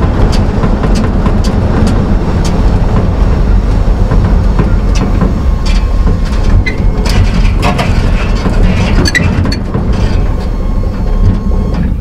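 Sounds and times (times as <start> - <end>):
deep truck exhaust rumble: 0.0 - 12.0
rattles and clicks: 0.0 - 12.0.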